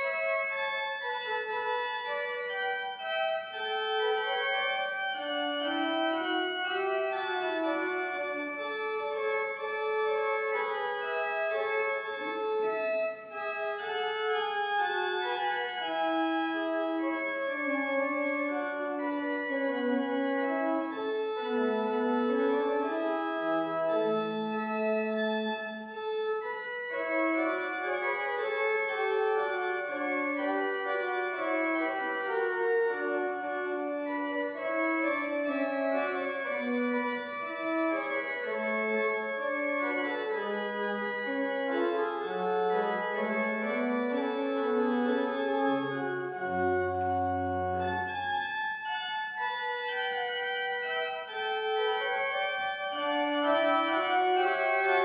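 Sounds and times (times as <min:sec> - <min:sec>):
pipe organ playing: 0:00.0 - 0:55.0.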